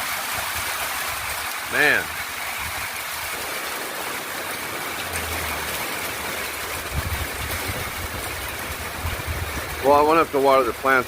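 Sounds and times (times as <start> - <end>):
heavy rain on a metal roof: 0.0 - 11.0.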